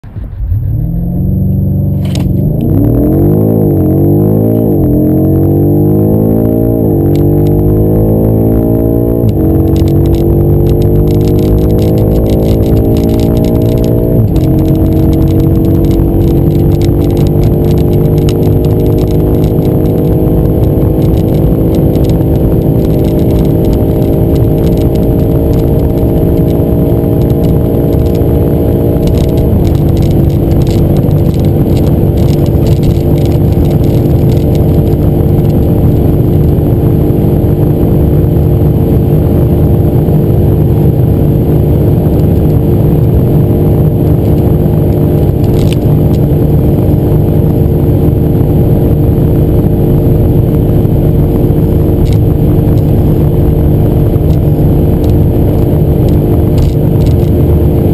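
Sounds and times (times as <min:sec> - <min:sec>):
car engine at full throttle: 0:00.0 - 0:57.9
road and wind noise: 0:00.0 - 0:57.9.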